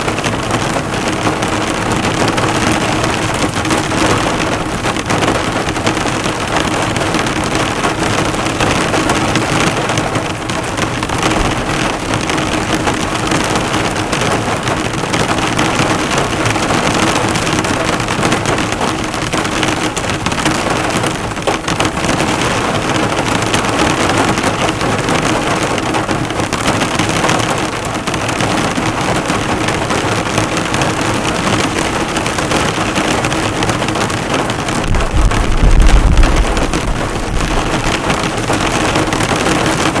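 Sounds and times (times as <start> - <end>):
heavy rain on a car: 0.0 - 40.0.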